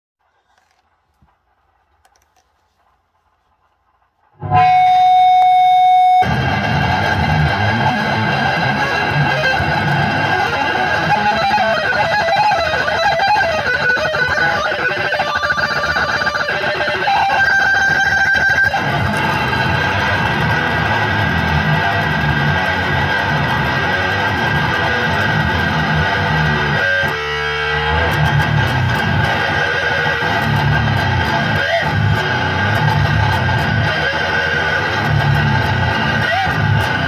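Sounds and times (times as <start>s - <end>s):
distorted electric guitar riffing: 4.4s - 37.0s.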